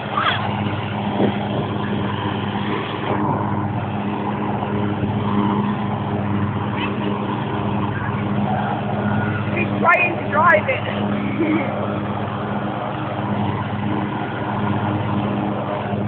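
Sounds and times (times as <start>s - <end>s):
ride-on lawnmower engine running: 0.0s - 16.0s.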